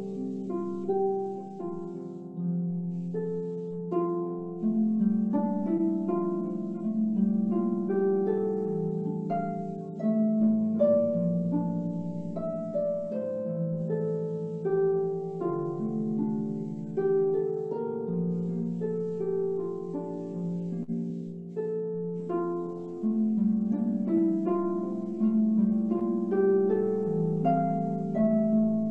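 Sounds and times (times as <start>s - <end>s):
solo harp melody: 0.0s - 28.9s.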